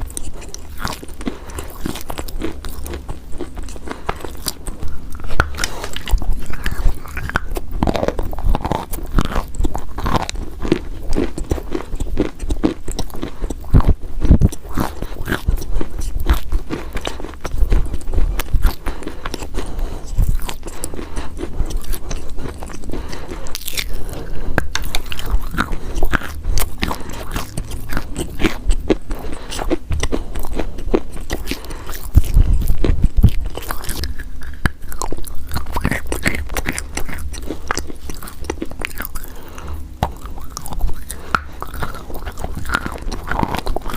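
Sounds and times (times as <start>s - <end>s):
chalk crunching while chewed: 0.0s - 43.9s.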